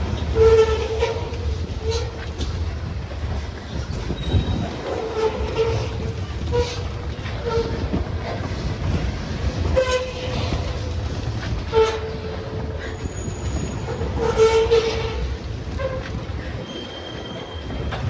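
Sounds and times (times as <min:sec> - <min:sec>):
freight train rumbling past: 0:00.0 - 0:18.0
train wheels clicking: 0:00.0 - 0:18.0
wheel squeals: 0:00.0 - 0:18.0.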